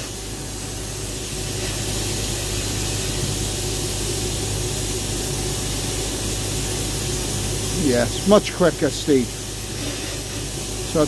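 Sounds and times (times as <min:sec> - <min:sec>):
sandblast gun hissing: 0:00.0 - 0:11.0.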